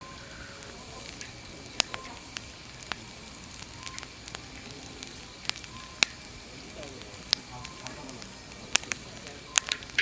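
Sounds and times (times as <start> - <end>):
fire hissing: 0.0 - 10.0
firewood crackling and popping: 0.0 - 10.0.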